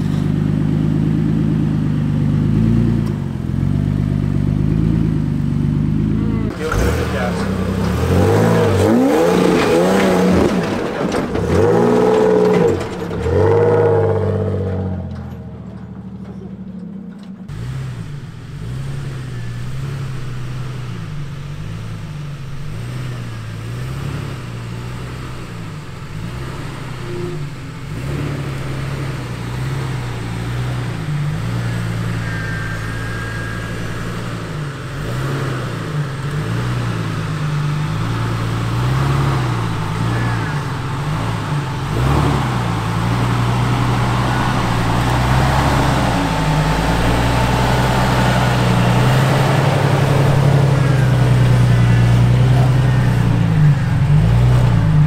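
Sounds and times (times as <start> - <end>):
pickup truck engine revving: 0.0 - 15.6, 17.4 - 55.0
off-road engine running low: 0.0 - 55.0.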